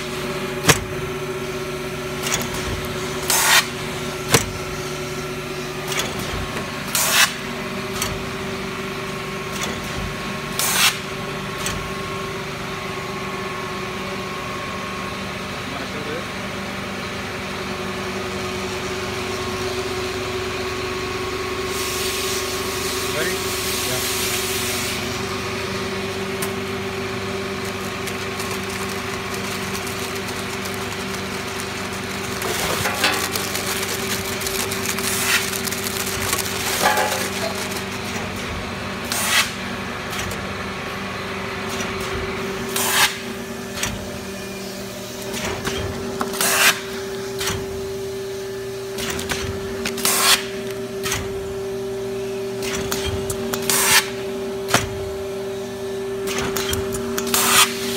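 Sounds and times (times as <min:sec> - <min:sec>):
machine motor hum: 0:11.4 - 0:57.9.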